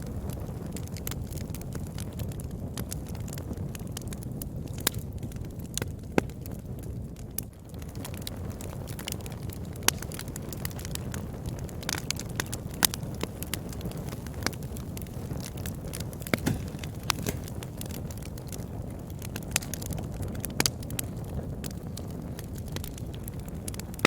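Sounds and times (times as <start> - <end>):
low rush of flame: 0.0 - 24.0
wood fire crackling and popping: 0.0 - 24.0.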